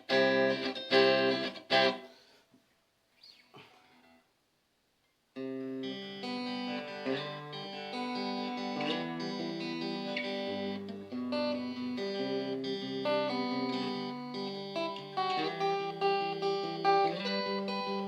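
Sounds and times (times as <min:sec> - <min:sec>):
clean electric guitar playing: 0:00.0 - 0:02.0, 0:05.4 - 0:18.0.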